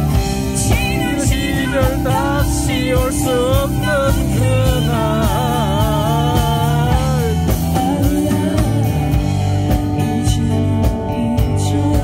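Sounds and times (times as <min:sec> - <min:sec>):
live band playing: 0:00.0 - 0:12.0
person singing: 0:00.5 - 0:12.0.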